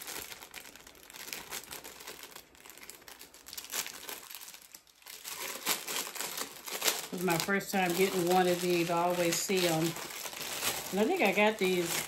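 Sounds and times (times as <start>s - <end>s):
packaging crumpled and rustled: 0.0s - 12.0s.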